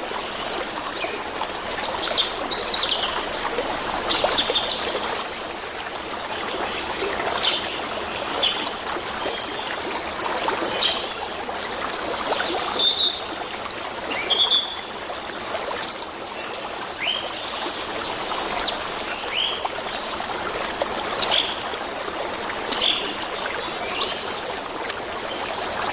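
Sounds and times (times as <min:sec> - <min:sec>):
running water: 0:00.0 - 0:25.9.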